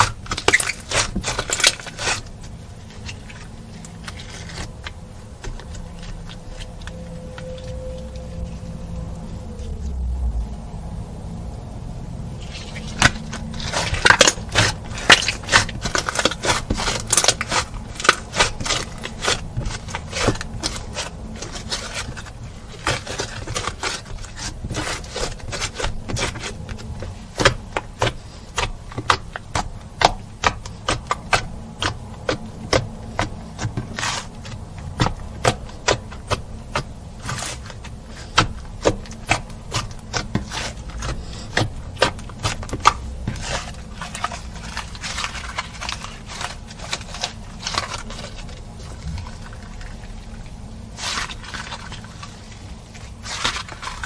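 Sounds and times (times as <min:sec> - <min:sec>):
slime being kneaded by hand: 0:00.0 - 0:10.4, 0:12.3 - 0:54.0.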